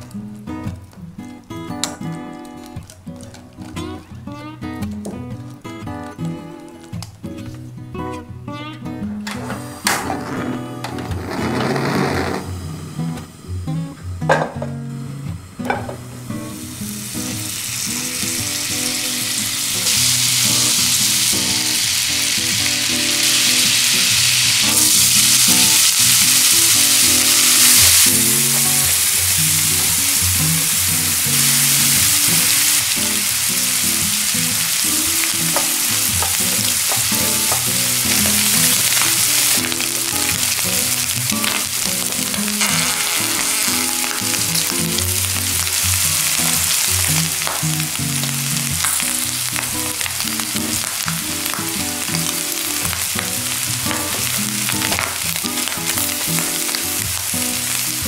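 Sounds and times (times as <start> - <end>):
corn sizzling in a frying pan: 0.0 - 4.0, 9.4 - 58.0.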